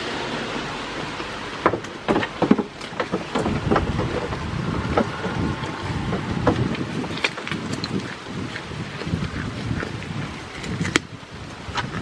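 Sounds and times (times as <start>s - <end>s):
goats chewing watermelon: 0.0s - 12.0s
steady noisy background: 0.0s - 12.0s.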